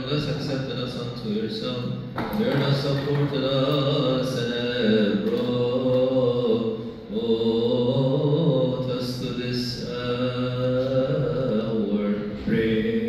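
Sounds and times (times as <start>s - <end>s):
men chanting a hymn: 0.0s - 13.0s.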